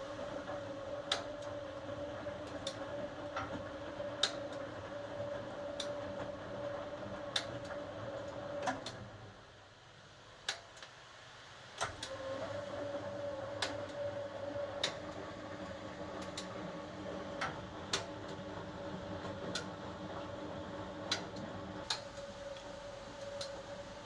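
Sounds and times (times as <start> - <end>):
washing machine humming: 0.0 - 9.5, 11.8 - 24.0.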